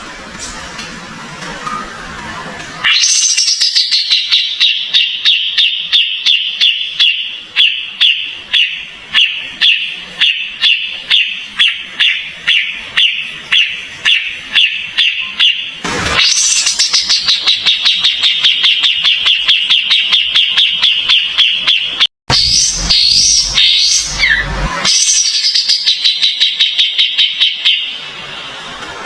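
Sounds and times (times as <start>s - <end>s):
bird calling sharp notes: 2.8s - 28.0s.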